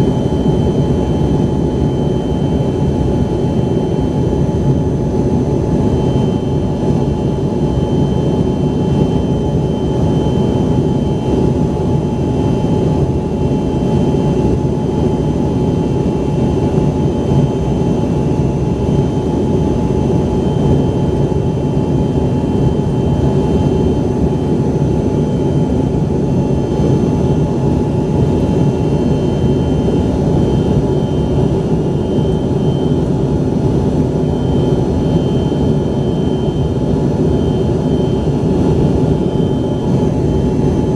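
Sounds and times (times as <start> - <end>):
jet engine roar in cabin: 0.0 - 40.9
thin steady whining tones: 0.0 - 40.9.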